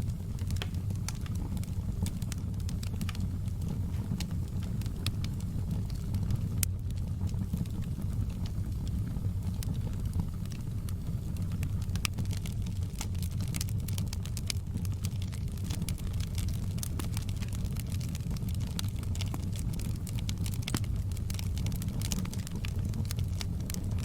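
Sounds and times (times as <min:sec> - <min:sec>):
fire flames roaring: 0:00.0 - 0:24.0
logs crackling and popping: 0:00.0 - 0:24.0.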